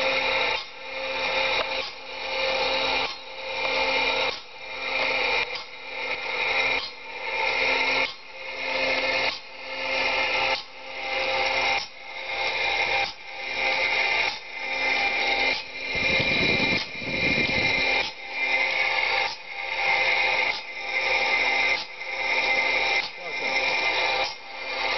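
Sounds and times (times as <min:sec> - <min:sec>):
saw blade sharpener grinding: 0:00.0 - 0:24.9.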